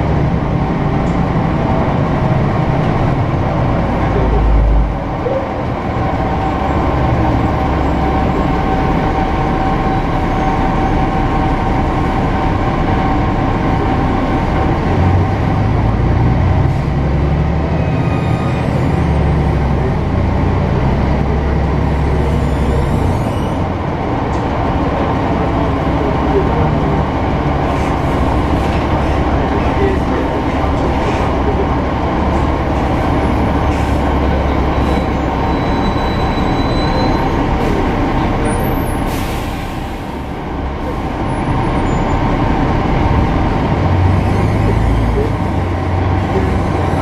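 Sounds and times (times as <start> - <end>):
bus diesel engine droning: 0.0 - 47.0
road rumble: 0.0 - 47.0.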